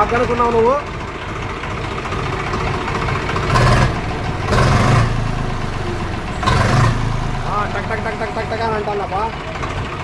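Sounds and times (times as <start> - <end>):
diesel engine knocking: 0.0 - 10.0.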